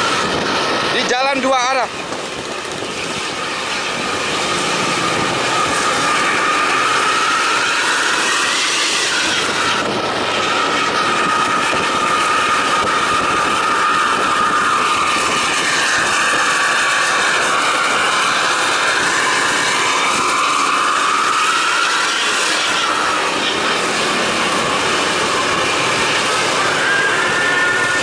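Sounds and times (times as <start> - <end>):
bus engine and exhaust: 0.0 - 1.1, 1.8 - 28.0
high whistling tone: 2.6 - 28.0.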